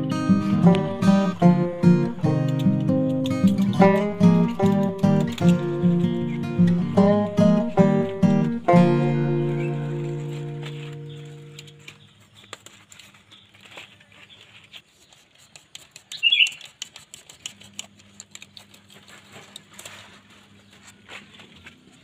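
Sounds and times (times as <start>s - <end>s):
stems crackling: 0.0s - 22.0s
knife cutting stems: 0.7s - 14.0s, 14.6s - 20.3s
leaves rustling: 2.1s - 22.0s.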